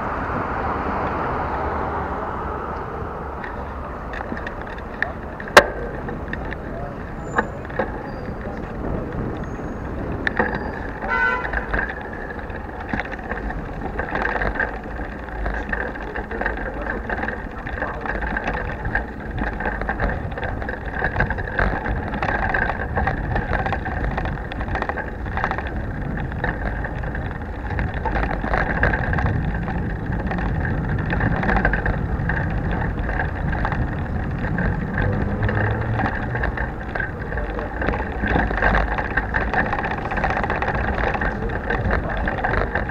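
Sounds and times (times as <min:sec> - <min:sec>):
bicycle rolling over cobblestones: 0:00.0 - 0:42.9.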